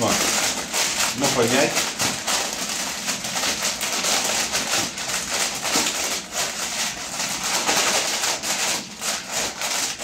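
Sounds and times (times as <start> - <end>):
foil chip packet crinkling: 0.0 - 10.0.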